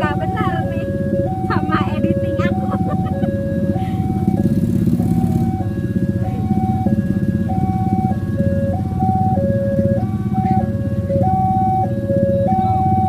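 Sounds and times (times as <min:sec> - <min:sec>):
loud engine rumble: 0:00.0 - 0:13.0
two-tone crossing alarm: 0:00.0 - 0:13.0.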